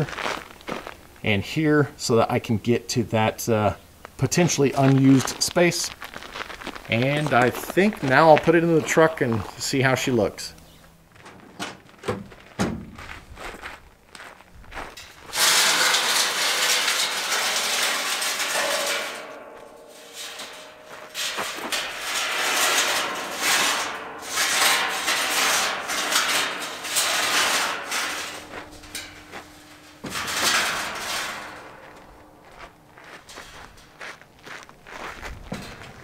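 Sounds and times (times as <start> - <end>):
metal frame scraping on dirt: 0.0 - 36.0.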